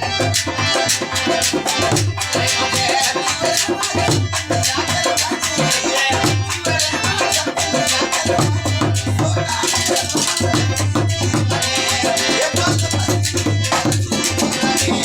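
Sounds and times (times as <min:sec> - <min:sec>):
jingling percussion: 0:00.0 - 0:15.0.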